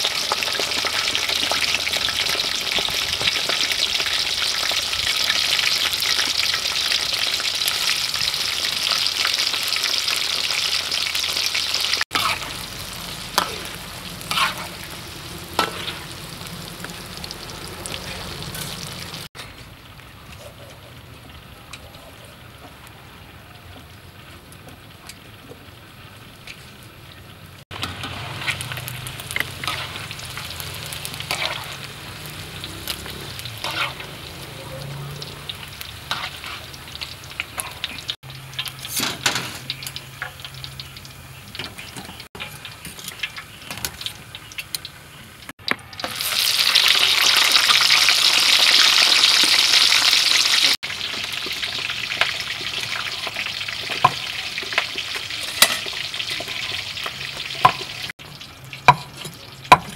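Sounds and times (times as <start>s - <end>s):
food sizzling in hot oil: 0.0s - 20.0s, 24.0s - 59.9s.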